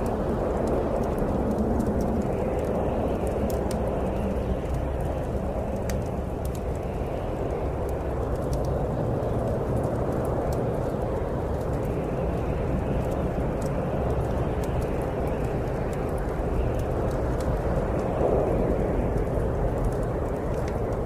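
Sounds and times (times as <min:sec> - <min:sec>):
snowstorm wind: 0:00.0 - 0:21.0
wood fire crackling: 0:00.0 - 0:21.0.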